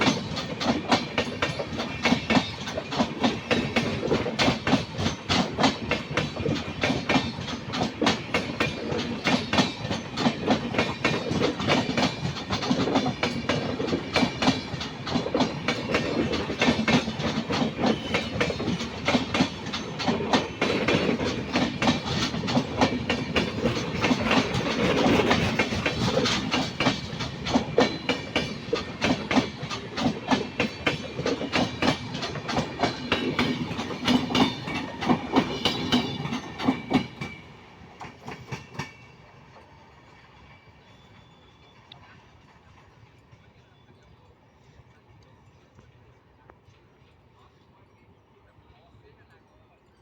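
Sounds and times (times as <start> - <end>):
train wheels clattering: 0.0 - 43.8
low train rumble: 0.0 - 50.0.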